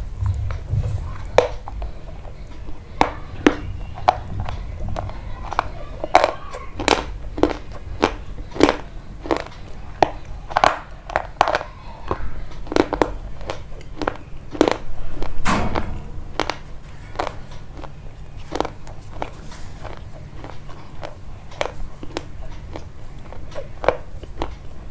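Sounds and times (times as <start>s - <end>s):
crunchy food being chewed: 0.0s - 24.9s.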